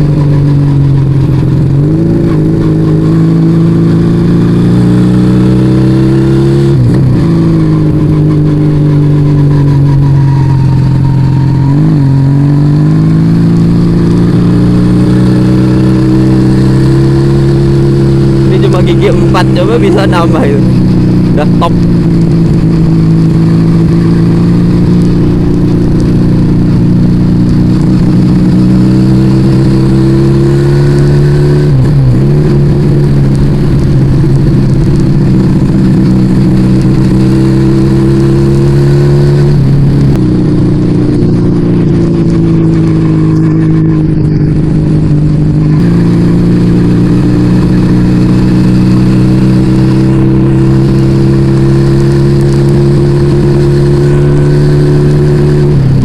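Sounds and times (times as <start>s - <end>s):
motorcycle engine under load: 0.0s - 56.0s.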